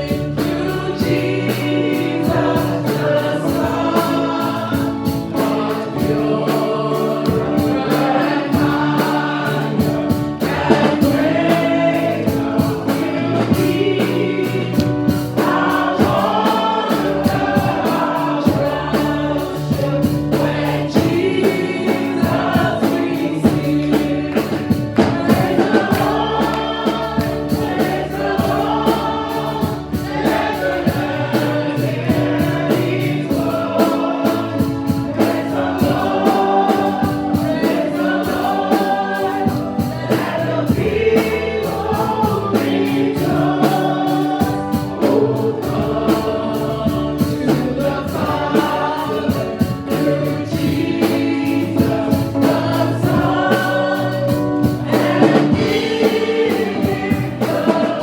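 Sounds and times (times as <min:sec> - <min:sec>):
choir singing gospel music: 0:00.0 - 0:58.0.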